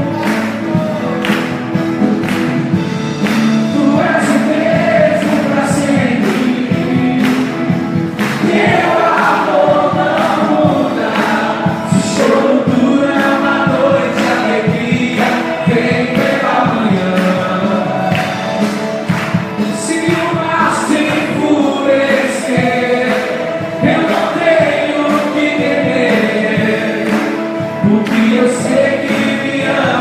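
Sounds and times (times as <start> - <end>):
band with steady beat: 0.0 - 30.0
group of voices singing: 0.0 - 30.0.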